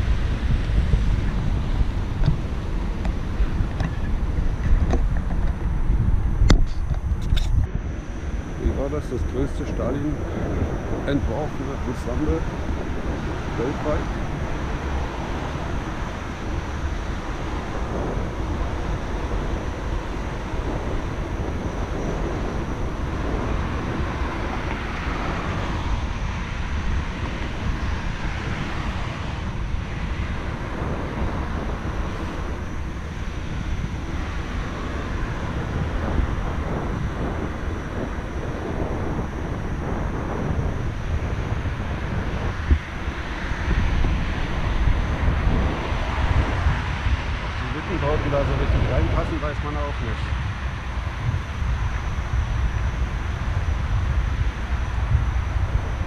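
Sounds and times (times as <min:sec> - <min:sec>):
road traffic: 0:00.0 - 0:56.0
wind rumble on microphone: 0:00.0 - 0:56.0.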